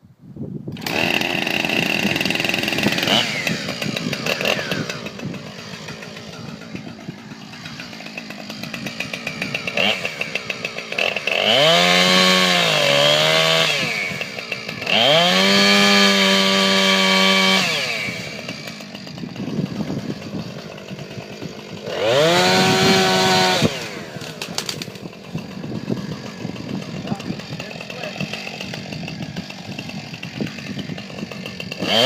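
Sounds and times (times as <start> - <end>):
chainsaw revving: 0.7 - 32.0.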